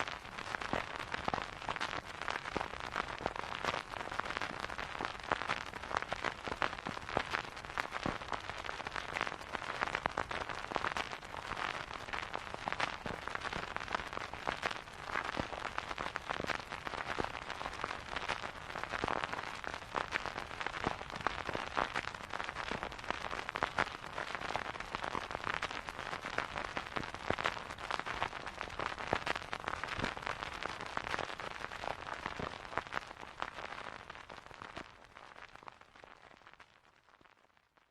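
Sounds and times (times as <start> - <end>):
vinyl record crackle: 0.0 - 37.9.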